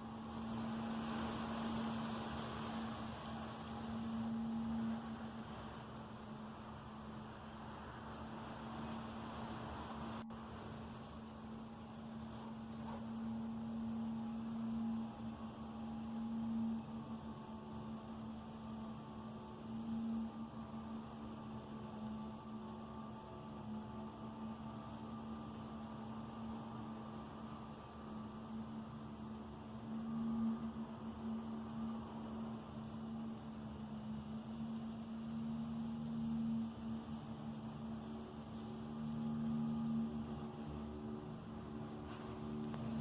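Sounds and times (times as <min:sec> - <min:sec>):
faint higher tones: 0:00.0 - 0:43.0
low-pitched humming drone: 0:00.0 - 0:43.0.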